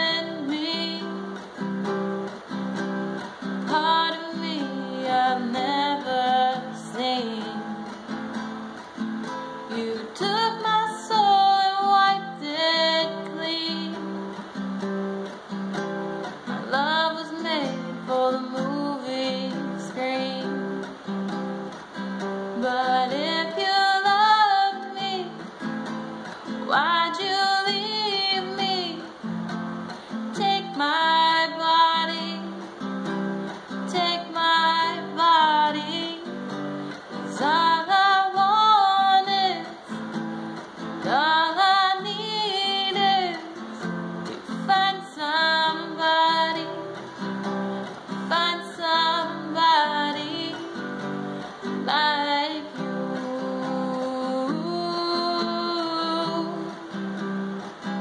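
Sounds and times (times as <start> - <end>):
strummed acoustic guitar: 0.0 - 58.0
woman singing: 0.0 - 58.0.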